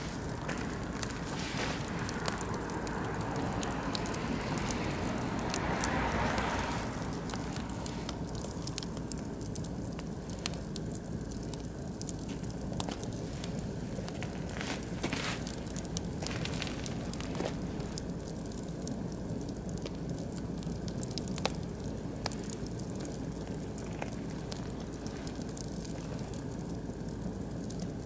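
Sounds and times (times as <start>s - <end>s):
sharp pops from fire: 0.0s - 28.0s
soft rushing hiss: 0.0s - 28.0s
wood fire crackling: 0.0s - 28.0s.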